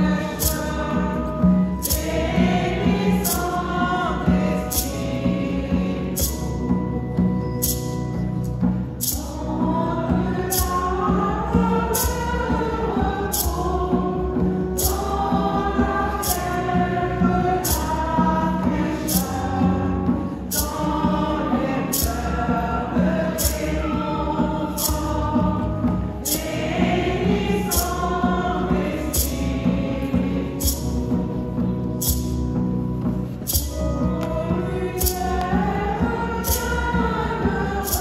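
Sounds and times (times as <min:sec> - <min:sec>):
choir singing a hymn: 0:00.0 - 0:38.0.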